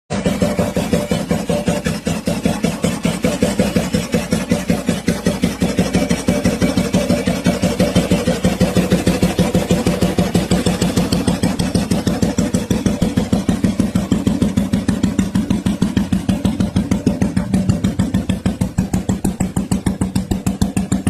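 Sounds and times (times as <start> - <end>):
motorcycle engine idling: 0.1 - 21.0.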